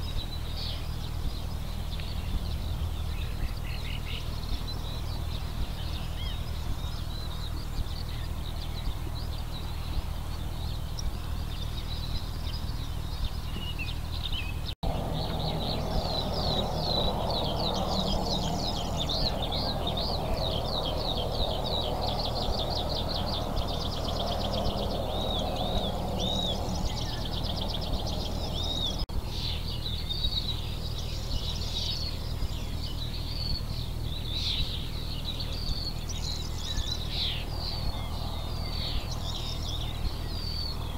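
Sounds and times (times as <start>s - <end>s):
songbirds singing: 0.0s - 40.9s
steady low rumble: 0.0s - 40.9s.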